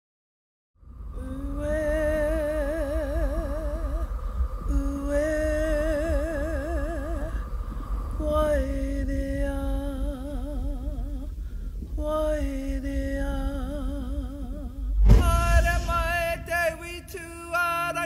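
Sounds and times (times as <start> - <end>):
steady low rumble: 0.8 - 18.0
person singing with vibrato: 1.2 - 18.0.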